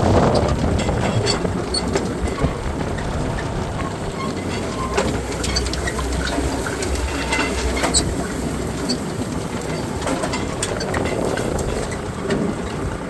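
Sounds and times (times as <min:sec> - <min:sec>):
farm machinery clattering: 0:00.0 - 0:13.0
tractor engine rumble: 0:00.0 - 0:13.0.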